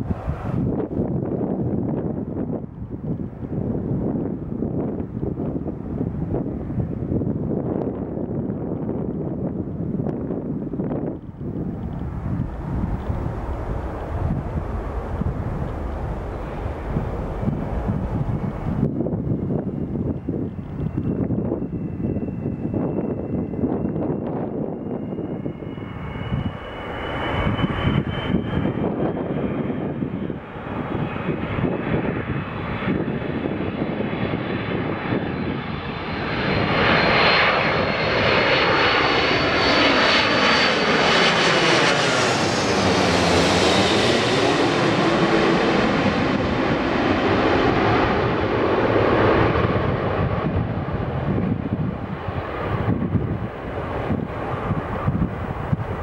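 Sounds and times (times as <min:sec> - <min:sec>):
jet airliner passing overhead: 0:00.0 - 0:56.0.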